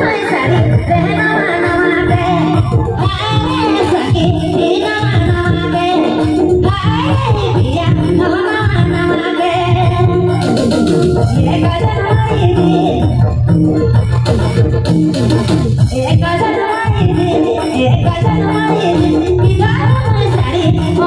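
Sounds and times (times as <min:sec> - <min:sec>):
woman singing into a microphone: 0:00.0 - 0:14.0, 0:15.1 - 0:21.0
live band music: 0:00.0 - 0:21.0
hand-played barrel drum beat: 0:00.5 - 0:21.0.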